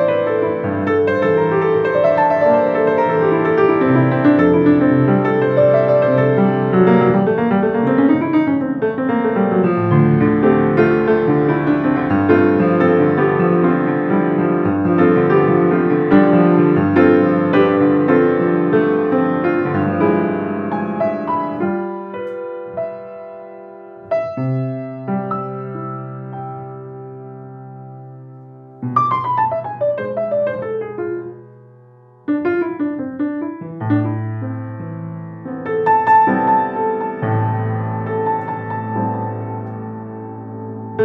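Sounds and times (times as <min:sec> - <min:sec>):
solo piano: 0:00.0 - 0:41.0.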